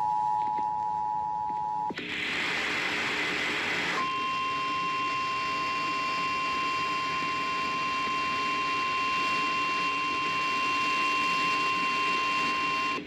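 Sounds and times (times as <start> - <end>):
steady high-pitched alarm tone: 0.0 - 13.0.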